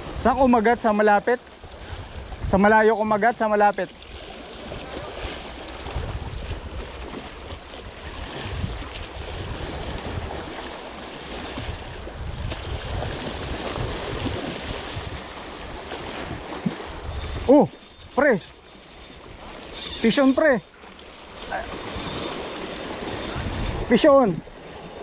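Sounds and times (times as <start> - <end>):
wind rumble on microphone: 1.6 - 2.6, 4.1 - 20.7, 21.4 - 25.0.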